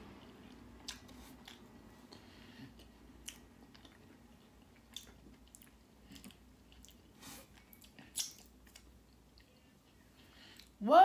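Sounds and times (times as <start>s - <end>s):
person chewing crunchy food: 0.2s - 10.7s.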